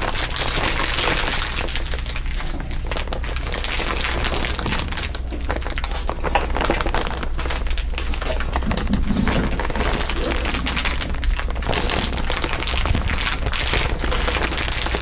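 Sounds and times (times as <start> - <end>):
crinkly material crinkling: 0.0 - 15.0
steady low hum: 0.0 - 15.0.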